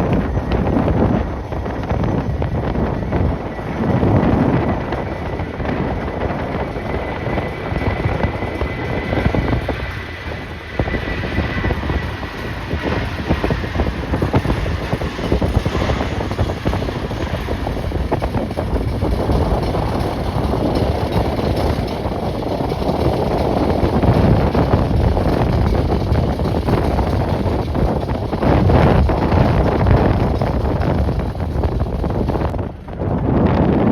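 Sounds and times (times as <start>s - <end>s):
gusty wind buffeting microphone: 0.0s - 33.9s
high steady whine: 0.0s - 33.9s
jet airliner engines: 0.0s - 33.9s.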